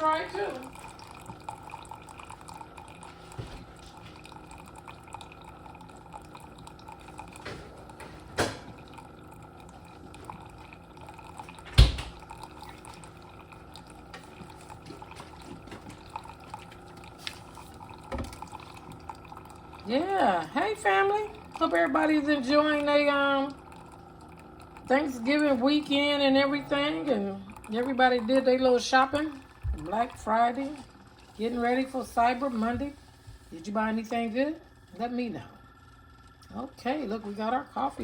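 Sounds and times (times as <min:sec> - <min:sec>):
liquid dripping: 0:00.0 - 0:38.0
steady low hum: 0:00.0 - 0:38.0.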